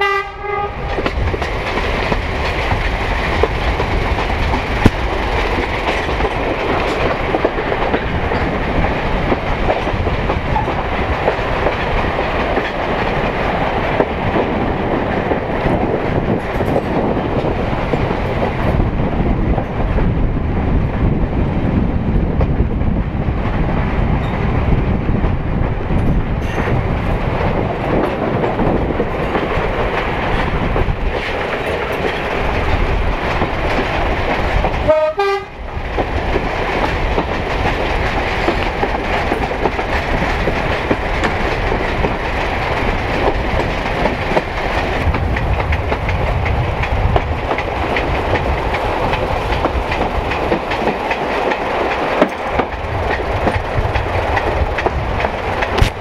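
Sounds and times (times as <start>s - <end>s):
train engine and wheels rumbling: 0.0s - 56.0s.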